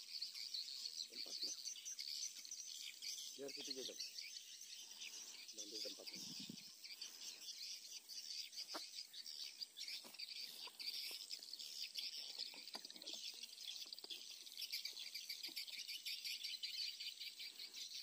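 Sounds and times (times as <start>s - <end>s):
birds chirping: 0.0s - 18.0s
insects chirping: 0.0s - 18.0s.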